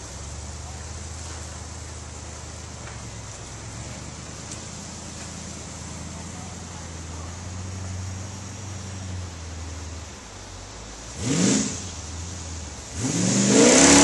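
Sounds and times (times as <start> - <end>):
buggy engine droning: 0.0 - 14.0.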